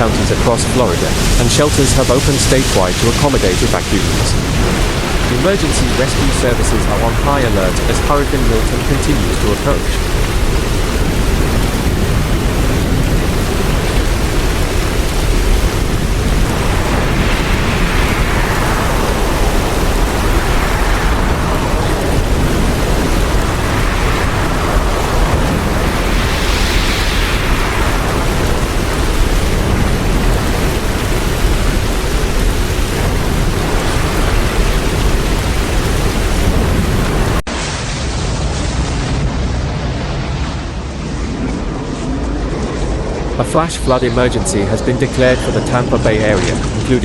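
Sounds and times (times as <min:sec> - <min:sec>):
heavy rain: 0:00.0 - 0:47.0
hurricane wind: 0:00.0 - 0:47.0
wind rumbling on microphone: 0:00.0 - 0:47.0.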